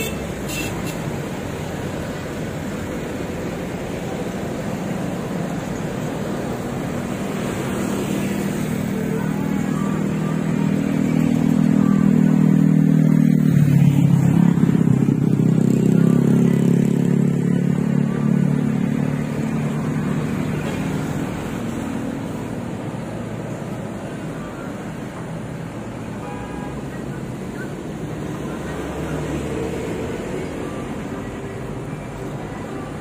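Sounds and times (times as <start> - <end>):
truck and motorcycle engines passing: 0.0 - 33.0.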